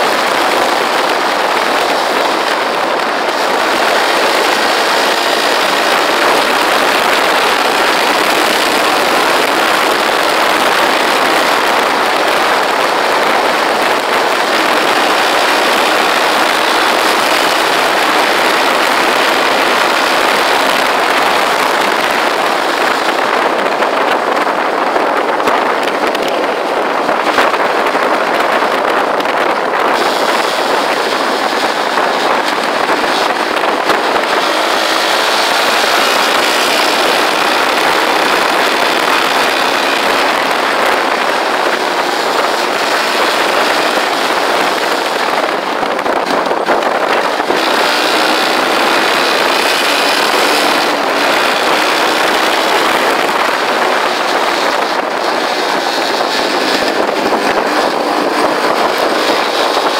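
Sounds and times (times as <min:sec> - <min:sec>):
motorcycle engine running: 0:00.0 - 0:59.9
road noise: 0:00.0 - 0:59.9
wind rushing: 0:00.0 - 0:59.9.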